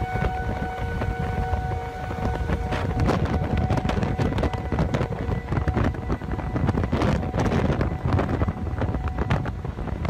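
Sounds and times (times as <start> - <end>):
strong wind gusts buffeting microphone: 0.0 - 10.0.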